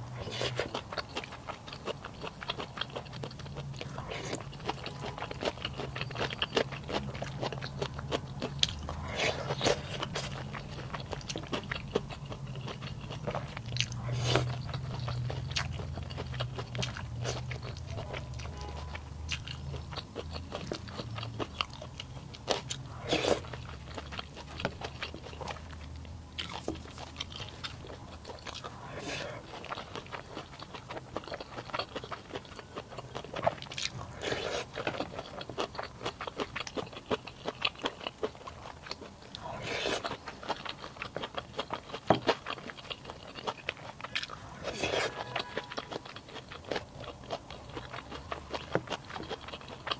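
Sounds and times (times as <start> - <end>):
crunching food: 0.0 - 49.9.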